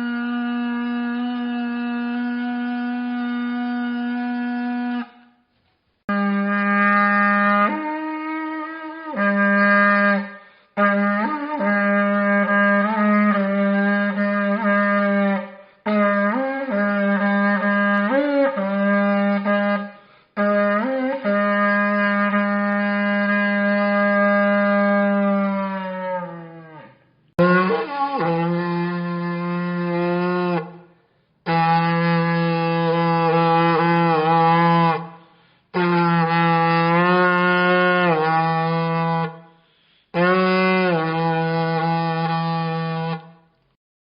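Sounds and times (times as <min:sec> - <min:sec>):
ancient trumpet blown: 0:00.0 - 0:43.6.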